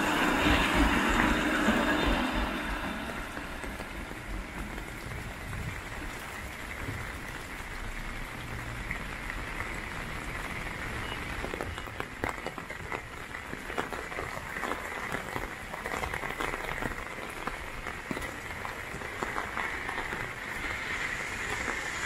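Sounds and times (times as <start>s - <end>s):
heavy rain on wet street: 0.0s - 22.0s.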